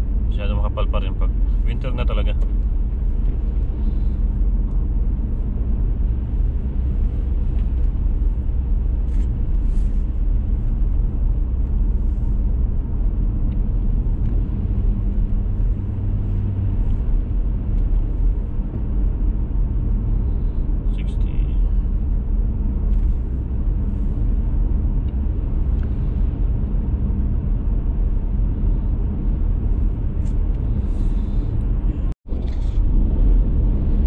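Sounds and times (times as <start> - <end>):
car engine rumble: 0.0 - 34.0.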